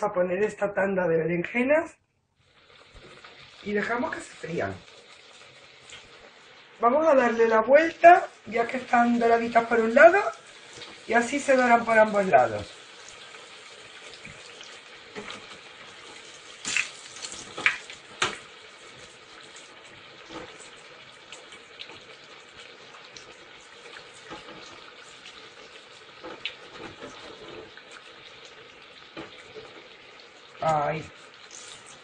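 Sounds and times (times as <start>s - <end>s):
slices sizzling in hot oil: 2.4s - 32.0s.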